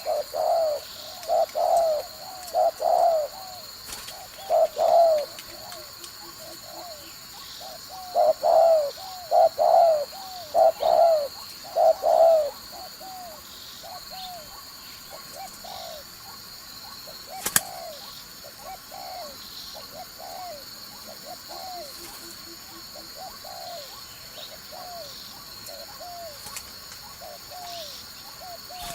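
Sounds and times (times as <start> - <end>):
dove cooing: 0.0 - 28.9.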